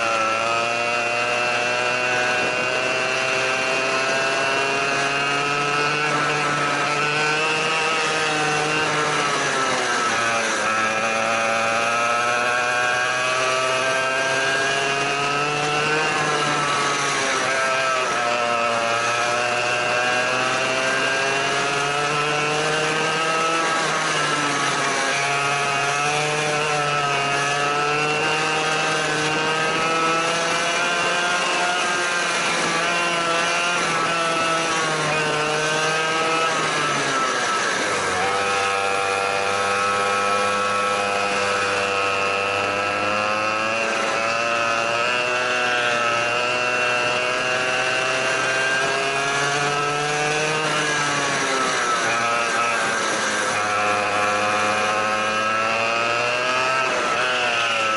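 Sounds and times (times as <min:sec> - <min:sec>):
go-kart engine revving: 0:00.0 - 0:57.9.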